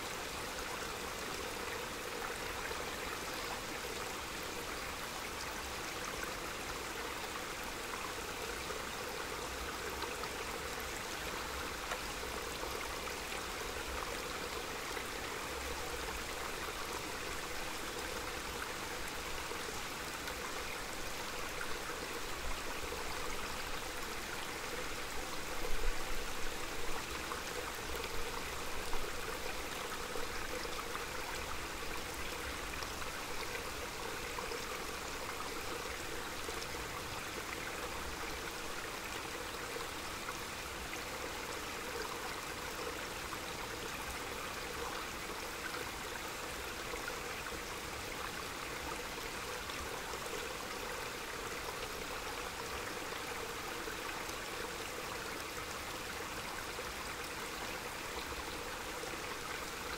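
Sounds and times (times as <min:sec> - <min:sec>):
stream rushing and babbling: 0:00.0 - 0:59.9.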